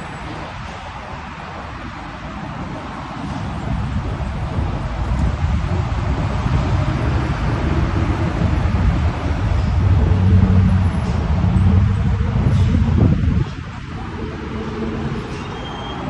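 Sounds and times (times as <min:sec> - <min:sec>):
tyre and road rumble: 0:00.0 - 0:16.0
low engine hum: 0:02.8 - 0:16.0.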